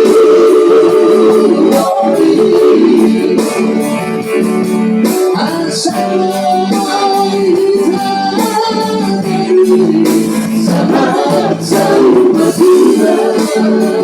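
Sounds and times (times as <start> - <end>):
song with long held notes: 0.0 - 14.0.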